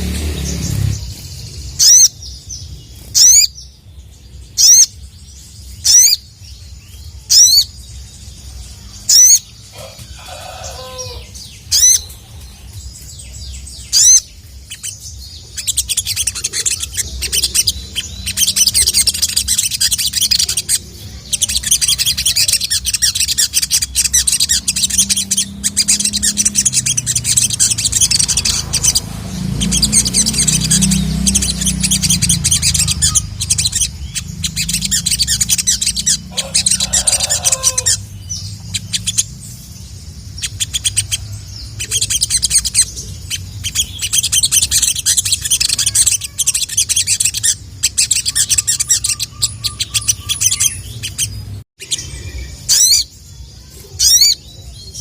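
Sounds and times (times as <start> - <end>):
bird calling sharp rising notes: 0.0 - 3.6, 13.0 - 55.0
bird twittering song: 0.0 - 55.0.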